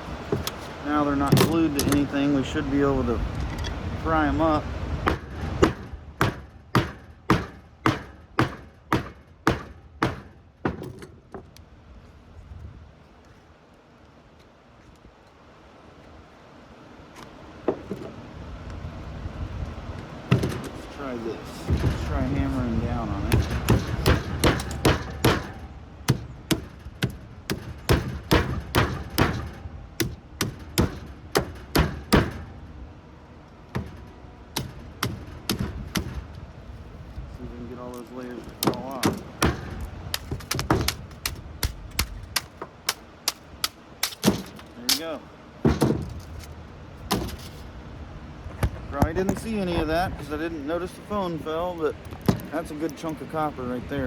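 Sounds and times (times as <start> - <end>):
hammer blows on metal laminations: 0.0 - 11.6, 19.9 - 32.8, 33.5 - 47.7, 48.5 - 54.0.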